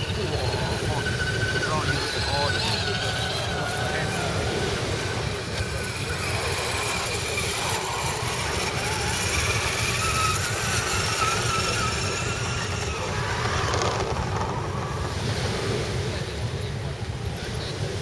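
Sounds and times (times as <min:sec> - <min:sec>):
electric motors whining: 0:00.0 - 0:18.0
wind rumbling on microphone: 0:00.0 - 0:18.0.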